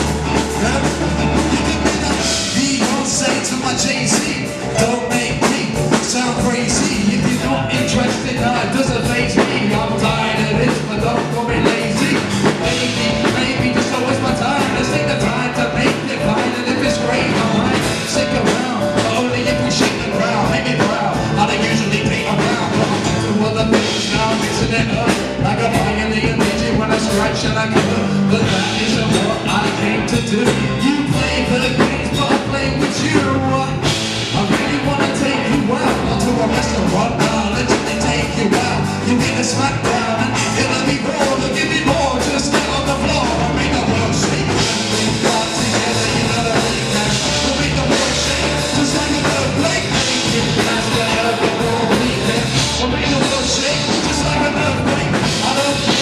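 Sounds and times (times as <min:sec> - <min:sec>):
rock song with drums and singing: 0:00.0 - 0:56.0.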